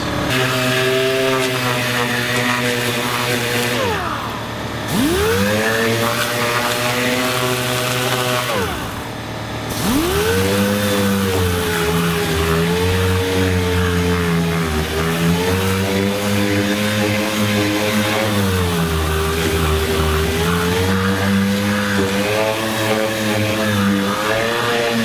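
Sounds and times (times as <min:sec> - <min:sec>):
orbital sander whining and grinding: 0:00.0 - 0:25.0.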